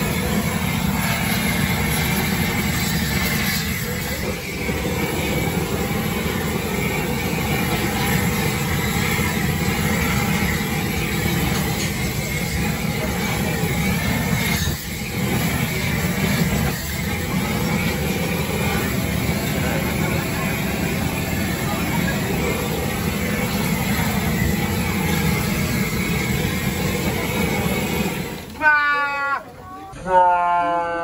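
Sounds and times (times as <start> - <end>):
gas torch hissing: 0.0 - 28.6.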